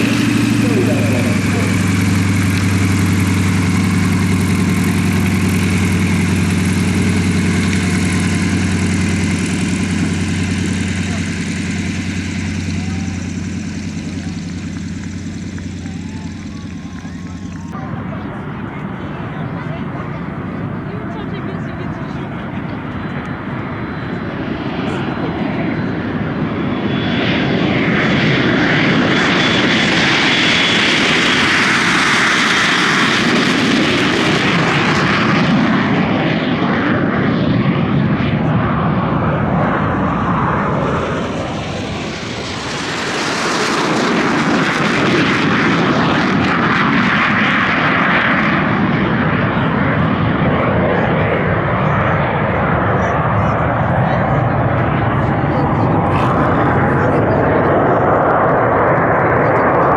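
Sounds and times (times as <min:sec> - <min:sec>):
aircraft engine flying past: 0:00.0 - 0:59.9.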